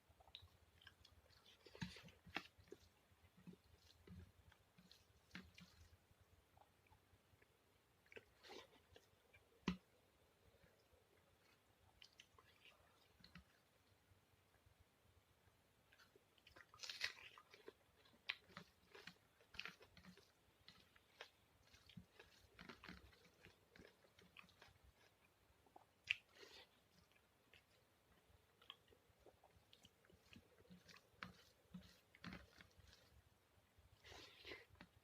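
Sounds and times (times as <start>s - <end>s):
wet chewing: 0.1s - 14.0s, 15.9s - 35.0s.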